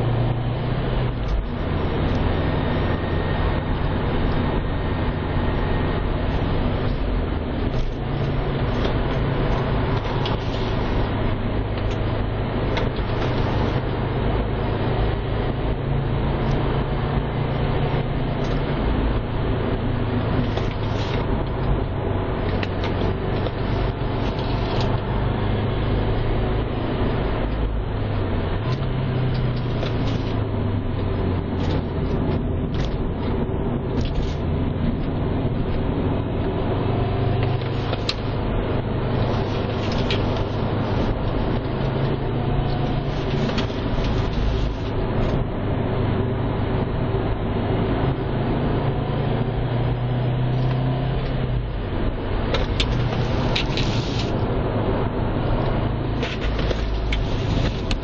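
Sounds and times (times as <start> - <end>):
car engine droning: 0.0 - 58.0
tyre and road noise: 0.0 - 58.0.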